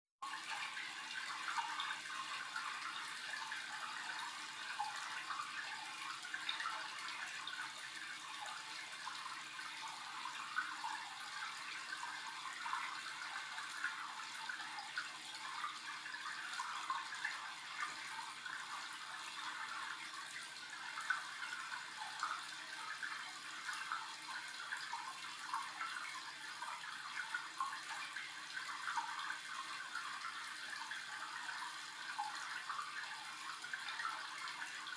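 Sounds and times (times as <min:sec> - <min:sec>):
faint steady hum: 0:00.2 - 0:34.9.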